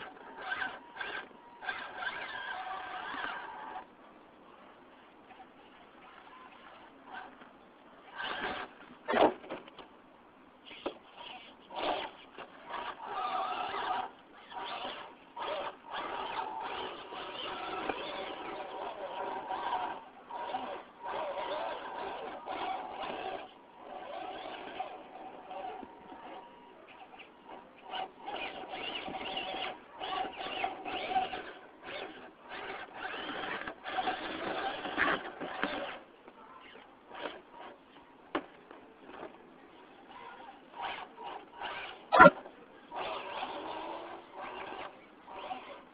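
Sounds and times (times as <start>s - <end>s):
electric motor and gears whining: 0.0s - 3.9s, 5.3s - 9.9s, 10.6s - 45.9s.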